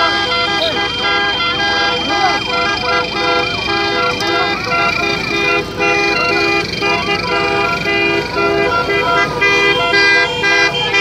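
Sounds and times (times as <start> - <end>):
vehicle horns honking: 0.0 - 11.0.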